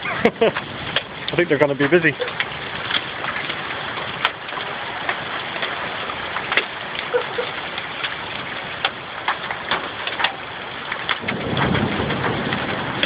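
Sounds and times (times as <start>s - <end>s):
hail striking hard surfaces: 0.0s - 13.0s
heavy rain hissing: 0.0s - 13.0s.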